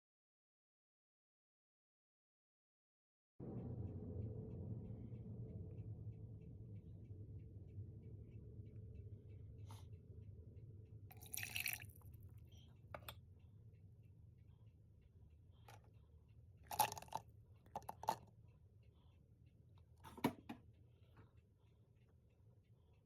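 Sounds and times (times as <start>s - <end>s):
faint low hum: 3.4s - 23.0s.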